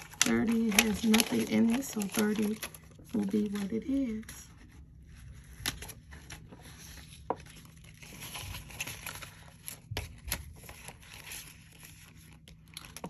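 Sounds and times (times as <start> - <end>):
banknotes rustling: 0.0 - 13.0
plastic pouch crinkling: 0.0 - 13.0.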